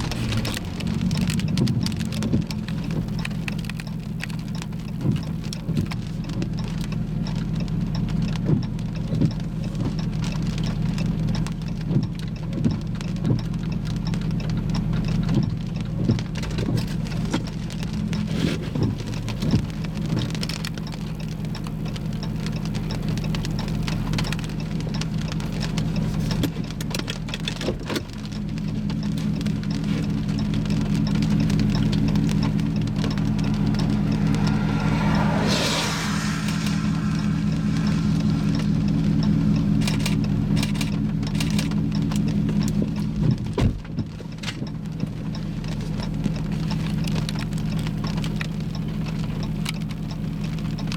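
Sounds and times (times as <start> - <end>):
low engine hum: 0.0 - 50.9
rain falling on a vehicle: 0.0 - 50.9.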